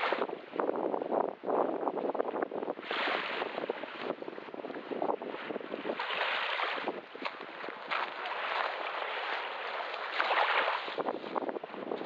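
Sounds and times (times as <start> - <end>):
sea waves washing on shore: 0.0 - 0.7, 2.0 - 12.0.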